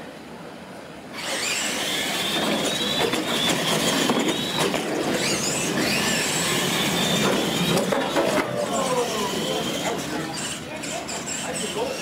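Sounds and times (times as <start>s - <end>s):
electric toy truck motors whining: 1.1s - 12.0s
toy trucks rattling: 1.2s - 12.0s.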